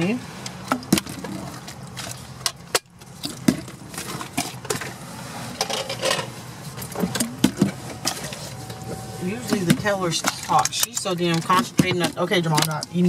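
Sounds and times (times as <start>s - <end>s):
low steady hum: 0.0s - 13.0s
clicks taps and rustles: 0.4s - 5.0s, 5.6s - 13.0s.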